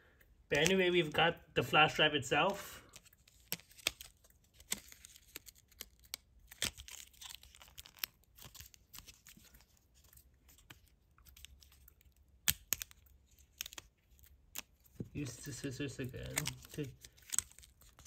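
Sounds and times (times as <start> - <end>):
plastic packaging crinkling: 2.8 - 18.0.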